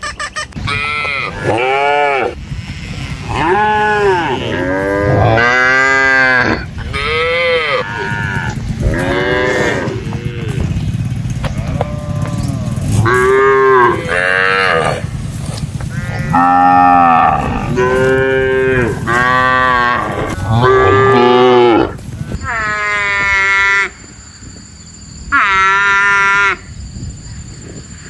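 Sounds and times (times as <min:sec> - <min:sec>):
cattle mooing: 0:00.6 - 0:15.2, 0:15.9 - 0:24.0.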